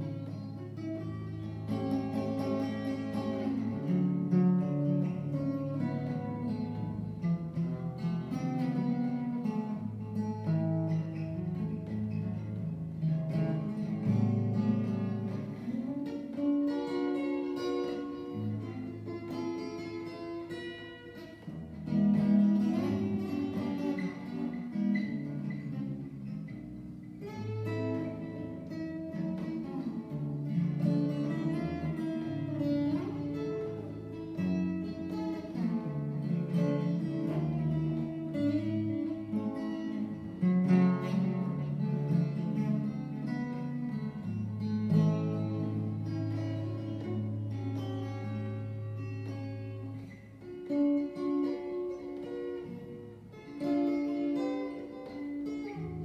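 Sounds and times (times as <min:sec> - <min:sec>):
fingerpicked acoustic guitar: 0:00.0 - 0:56.0.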